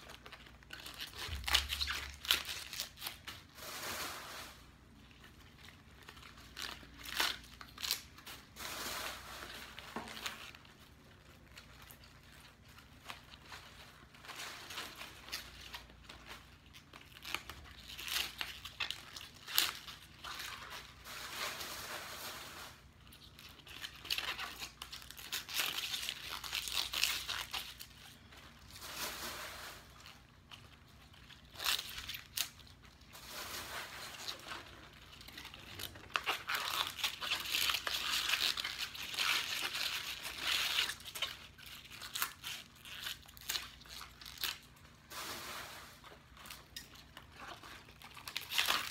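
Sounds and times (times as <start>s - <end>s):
leaves rustling and tearing: 0.0s - 48.9s.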